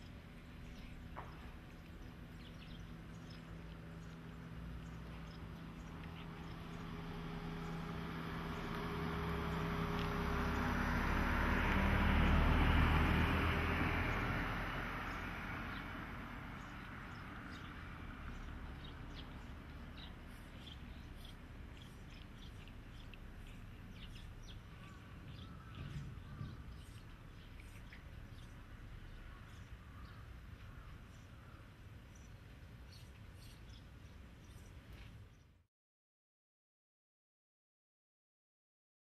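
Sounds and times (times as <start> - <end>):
vehicle rumbling past: 0.0 - 31.6.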